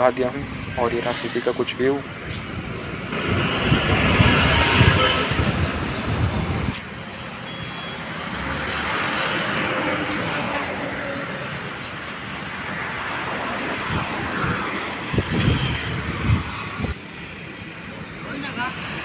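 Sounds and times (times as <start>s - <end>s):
outdoor background: 0.0s - 19.0s
road traffic passing: 0.0s - 19.0s
bus passing: 0.7s - 19.0s.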